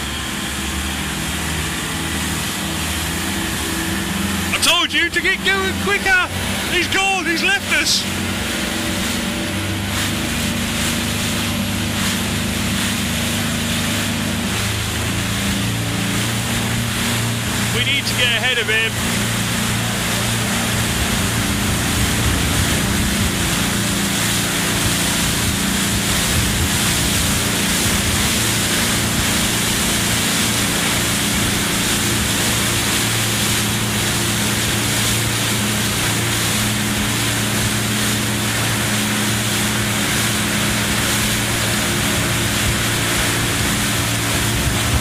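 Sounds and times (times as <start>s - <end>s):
motorboat engine running: 0.0s - 45.0s
water rushing: 0.0s - 45.0s.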